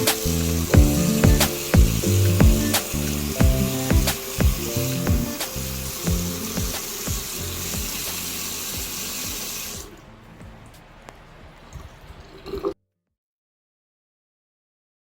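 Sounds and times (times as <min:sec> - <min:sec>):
faucet water running into basin: 0:00.0 - 0:12.8.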